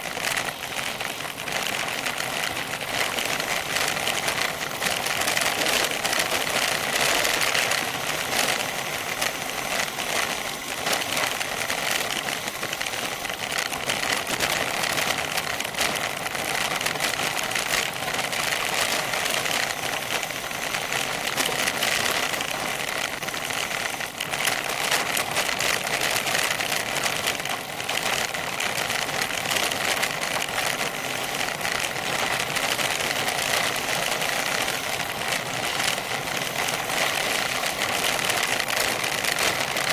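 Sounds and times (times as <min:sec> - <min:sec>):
bicycle tyres crunching on gravel: 0:00.0 - 0:39.9
bike clicking and buzzing: 0:00.0 - 0:39.9.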